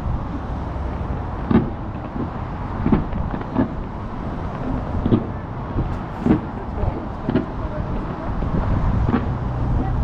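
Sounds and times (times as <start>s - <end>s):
fireworks booming: 0.0s - 10.0s
steady low rumble: 0.0s - 10.0s.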